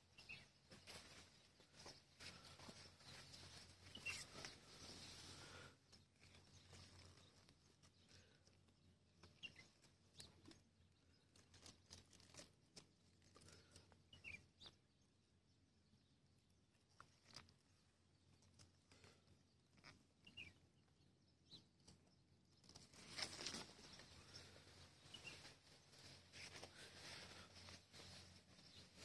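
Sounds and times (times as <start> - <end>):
faint bird chirps: 0.0 - 11.8, 13.3 - 29.0.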